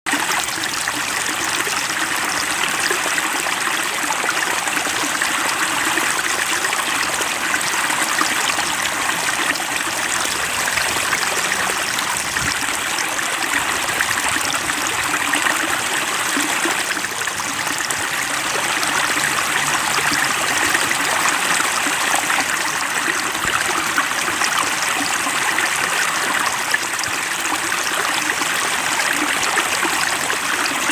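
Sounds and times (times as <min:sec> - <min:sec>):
running water: 0:00.1 - 0:30.9.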